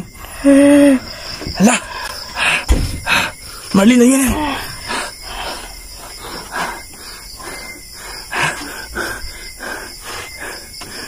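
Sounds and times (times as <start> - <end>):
woman panting and retching: 0.0 - 11.0.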